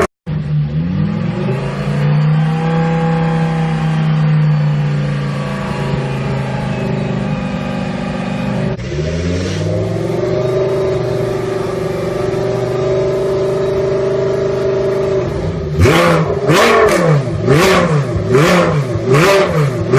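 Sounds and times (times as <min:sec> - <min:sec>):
engine revving in throttle blips: 0:00.0 - 0:19.9
race car engine running: 0:00.0 - 0:19.9.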